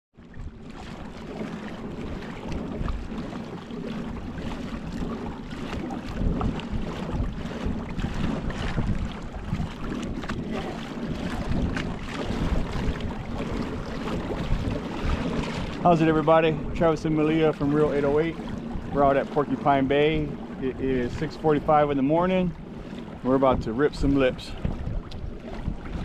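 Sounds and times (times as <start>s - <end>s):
water slapping against kayak: 0.1s - 26.0s
wind buffeting microphone: 0.2s - 26.0s.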